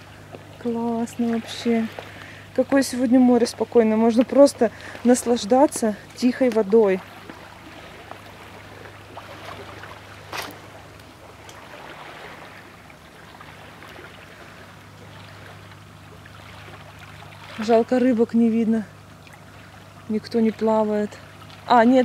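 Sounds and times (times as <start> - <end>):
low hum: 0.0 - 22.0
sea water washing against shore: 0.0 - 22.0.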